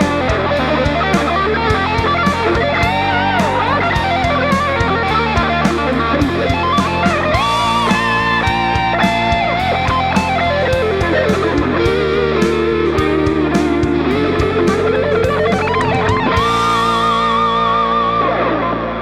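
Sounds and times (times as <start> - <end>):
electric guitar melody: 0.0 - 19.0.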